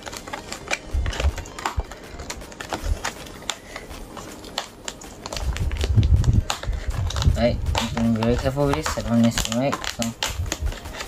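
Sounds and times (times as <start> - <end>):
clicks and scrapes on cardboard: 0.0 - 11.0.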